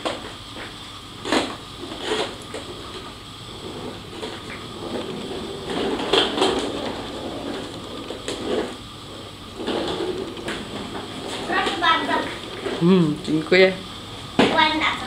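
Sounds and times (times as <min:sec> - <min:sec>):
casters rolling on wooden floor: 0:00.0 - 0:13.8.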